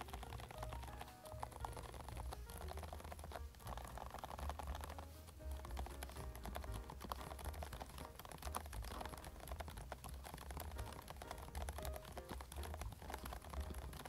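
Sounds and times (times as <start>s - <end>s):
soft mechanical keyboard typing: 0.0s - 14.0s.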